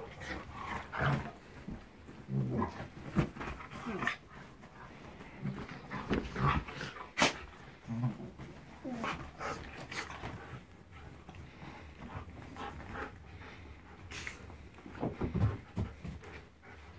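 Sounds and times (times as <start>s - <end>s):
dogs scuffling: 0.0s - 16.6s
breathy dog noises: 0.0s - 16.9s.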